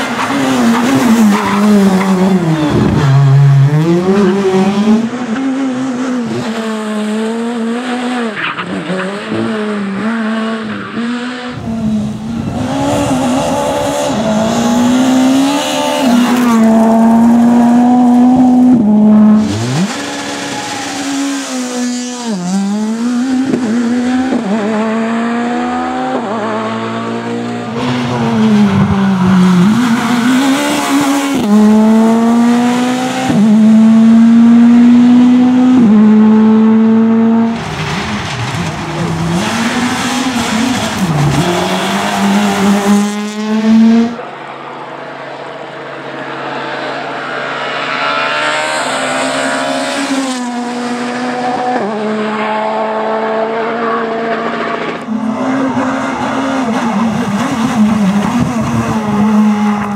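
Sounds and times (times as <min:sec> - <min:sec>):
rally car engine at full throttle: 0:00.0 - 0:59.9.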